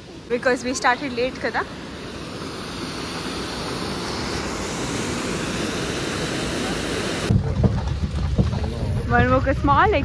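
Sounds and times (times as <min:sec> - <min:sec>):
mountain stream rushing: 0:00.0 - 0:09.0.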